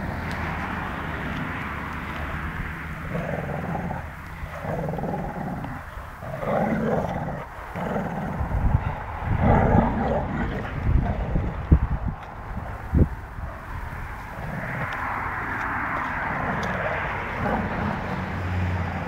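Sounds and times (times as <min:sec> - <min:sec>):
dogs growling: 0:01.0 - 0:19.0.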